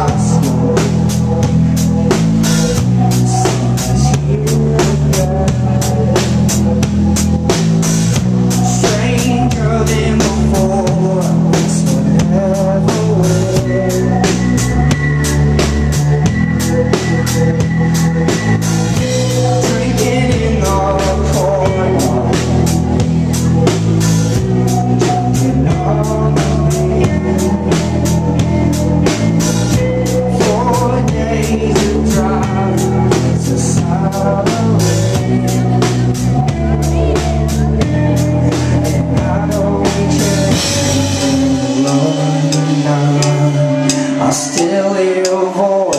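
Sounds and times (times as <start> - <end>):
bass and guitar chords: 0.0 - 45.9
drum kit beat: 0.0 - 45.9.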